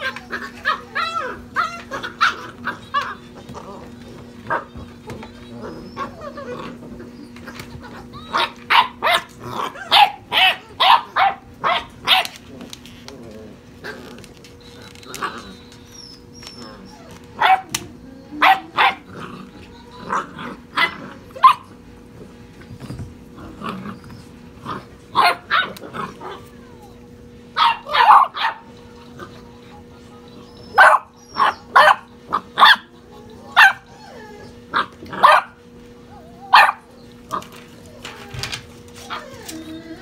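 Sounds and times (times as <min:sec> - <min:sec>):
puppies barking: 0:00.0 - 0:40.0.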